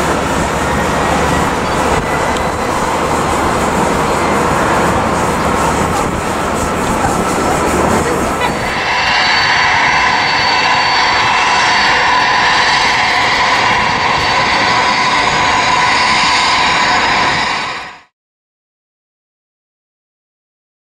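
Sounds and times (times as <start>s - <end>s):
jet engines whining: 0.0s - 18.1s.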